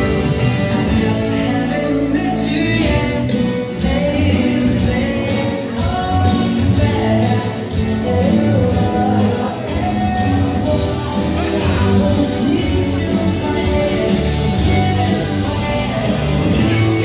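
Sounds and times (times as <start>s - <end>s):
dance music with singer: 0.0s - 17.0s.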